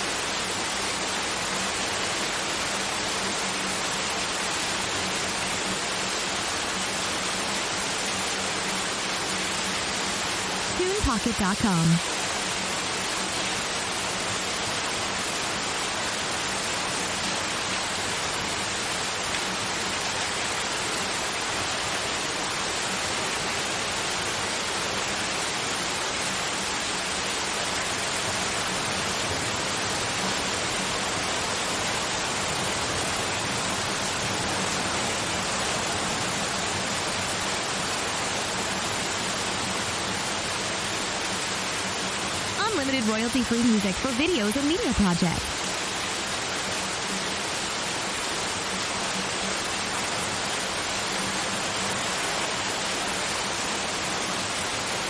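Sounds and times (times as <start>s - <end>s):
steady white noise hiss: 0.0s - 55.0s.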